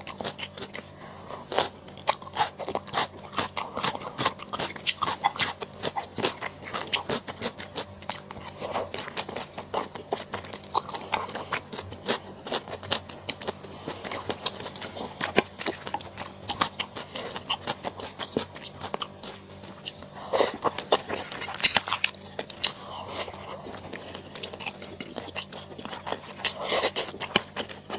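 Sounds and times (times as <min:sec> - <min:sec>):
crisp chewing crunches: 0:00.0 - 0:27.9.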